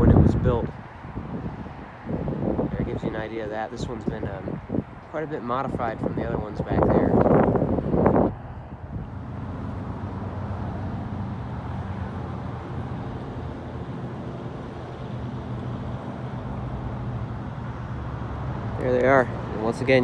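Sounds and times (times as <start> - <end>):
low mechanical engine hum: 0.0 - 20.0.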